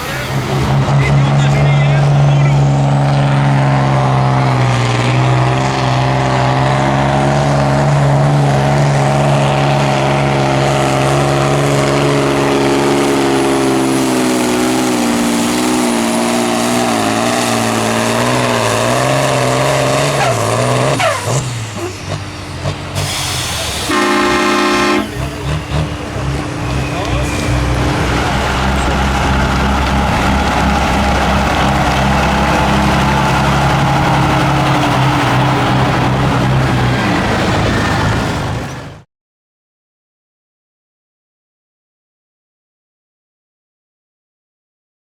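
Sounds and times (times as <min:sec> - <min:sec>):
tractor engine running hard: 0:00.0 - 0:39.0.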